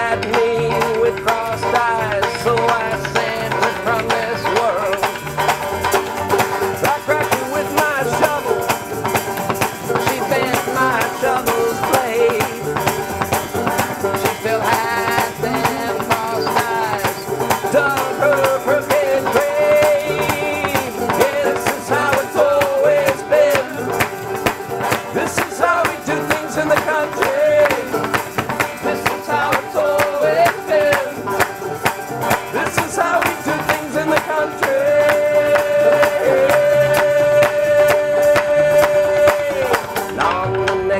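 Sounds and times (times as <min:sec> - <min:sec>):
banjos picking: 0:00.0 - 0:40.9
upright bass walking line: 0:00.0 - 0:40.9.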